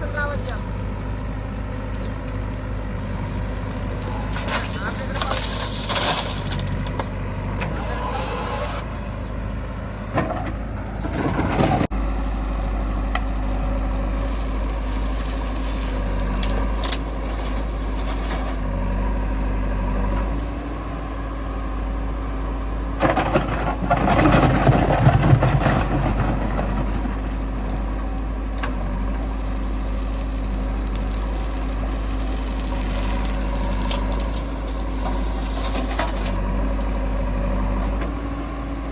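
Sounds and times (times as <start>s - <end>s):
heavy machinery diesel engines: 0.0s - 38.9s.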